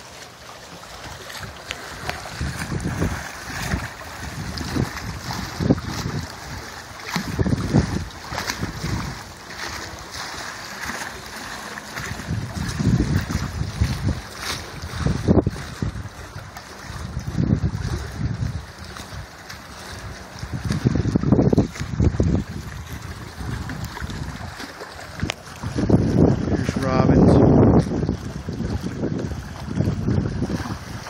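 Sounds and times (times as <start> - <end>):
choppy water: 0.0 - 31.0
wind buffeting microphone: 1.0 - 31.0.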